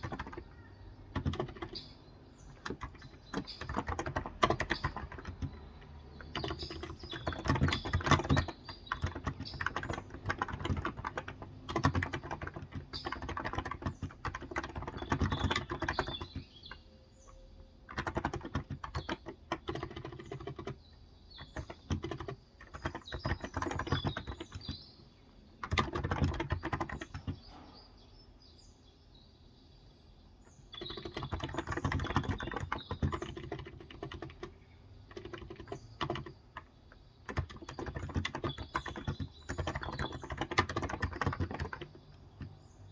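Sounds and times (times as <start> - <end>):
fast typing on keyboard: 0.0 - 24.9, 25.6 - 27.5, 30.6 - 42.9
birds chirping faintly: 0.0 - 42.9.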